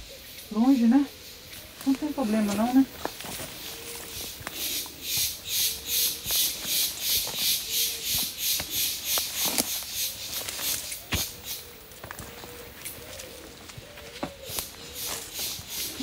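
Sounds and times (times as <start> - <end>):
insect singing in hissing pulses: 0.1 - 12.9, 14.3 - 16.0.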